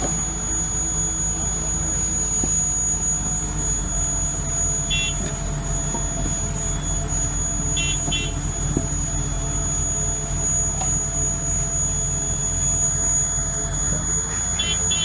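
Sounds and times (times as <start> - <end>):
low mechanical rumble: 0.0 - 15.0
short electronic beep: 0.0 - 15.0.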